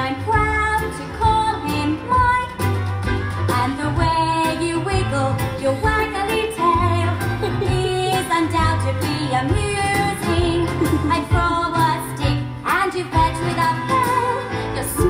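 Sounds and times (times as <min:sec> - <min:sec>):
band accompaniment: 0:00.0 - 0:15.0.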